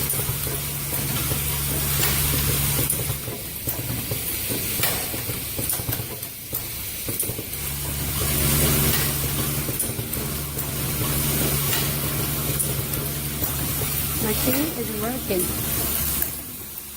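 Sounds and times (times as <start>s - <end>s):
machine low hum: 0.0s - 5.8s, 7.4s - 16.9s
machine hissing: 0.0s - 16.9s.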